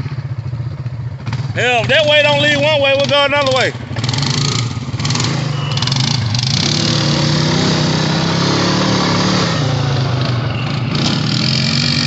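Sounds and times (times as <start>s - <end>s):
quad engine running: 0.0s - 12.0s
wind: 0.0s - 12.0s.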